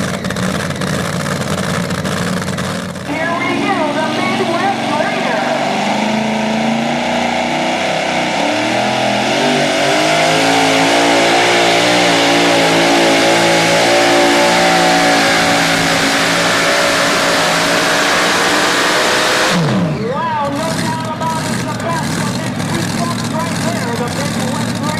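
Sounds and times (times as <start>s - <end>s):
truck engine at high revs: 0.0s - 24.9s.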